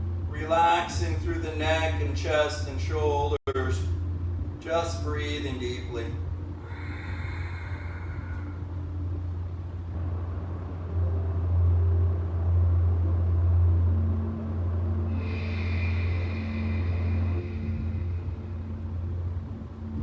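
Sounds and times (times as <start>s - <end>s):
faint higher tones: 0.0s - 20.0s
steady low rumble: 0.0s - 20.0s.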